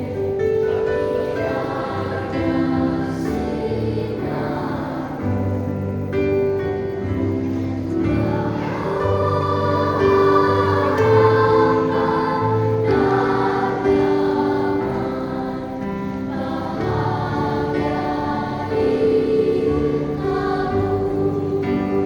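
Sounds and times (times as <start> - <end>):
children's choir singing a hymn: 0.0 - 22.0.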